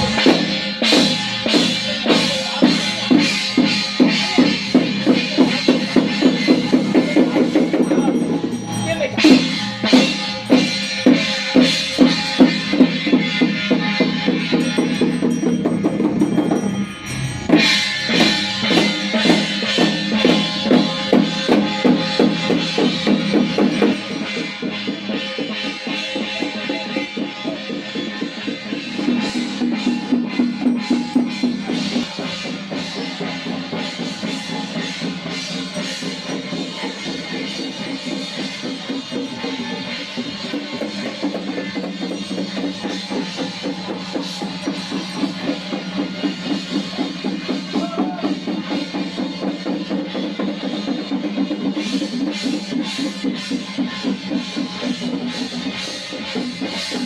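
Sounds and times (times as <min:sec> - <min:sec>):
drum-led percussion music: 0:00.0 - 0:57.0.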